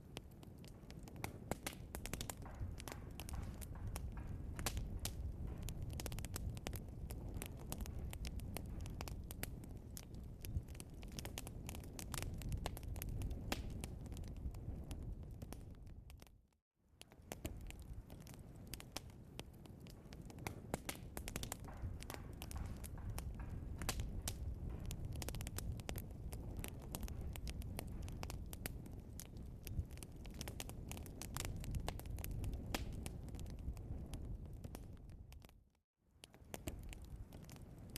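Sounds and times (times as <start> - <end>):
burning wood crackles and pops: 0.0 - 37.9
low rumble of flames: 0.0 - 37.9.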